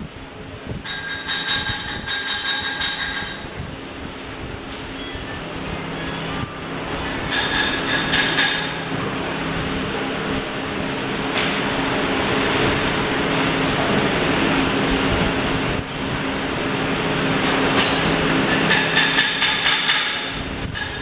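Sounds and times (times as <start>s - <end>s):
steady hum: 0.0s - 21.0s
welding arc hissing crackle: 0.0s - 21.0s.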